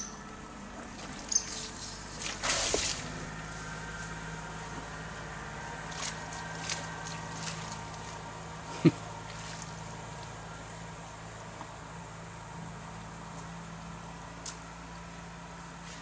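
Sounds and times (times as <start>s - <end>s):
boat motor idling: 0.0s - 13.2s.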